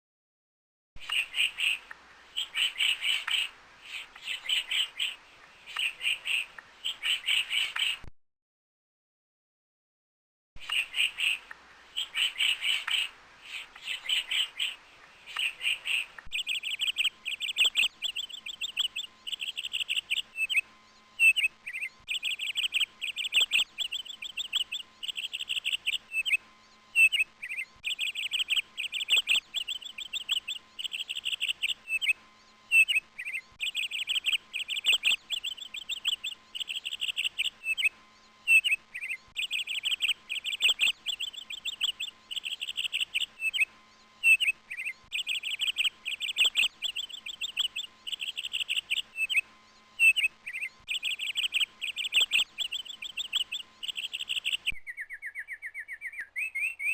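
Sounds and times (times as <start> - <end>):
bird trilled chirping: 2.4 - 8.0, 12.0 - 56.9.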